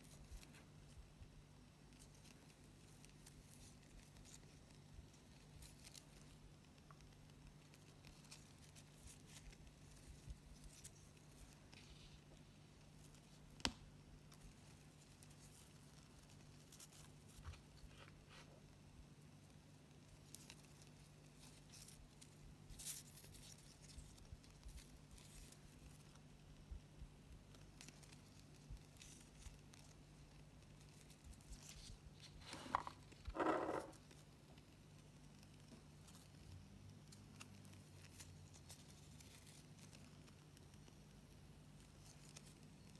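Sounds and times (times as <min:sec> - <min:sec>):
ribbon handling sounds: 0:01.7 - 0:18.8, 0:19.9 - 0:42.9.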